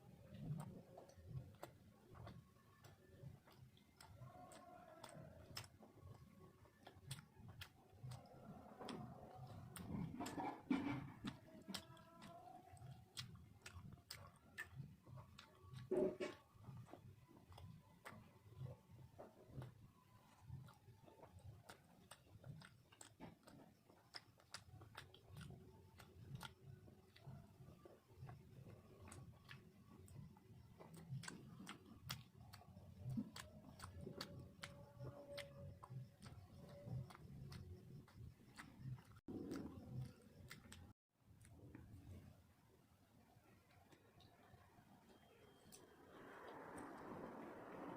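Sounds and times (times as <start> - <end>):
mouth clicks and lip smacks: 0.1 - 42.3.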